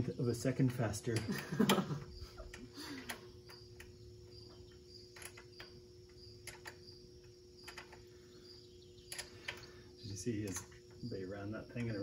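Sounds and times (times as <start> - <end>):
steady low hum: 0.0 - 12.0
cricket chirping: 0.8 - 12.0.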